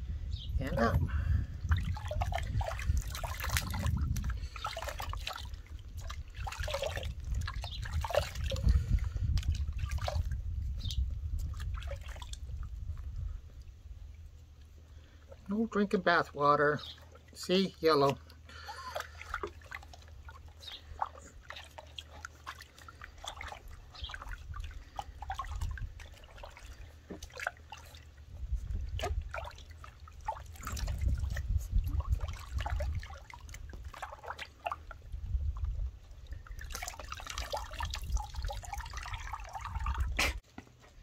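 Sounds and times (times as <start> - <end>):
water splashing in a plastic tub: 0.6 - 41.0
water pouring and dripping: 1.6 - 40.4.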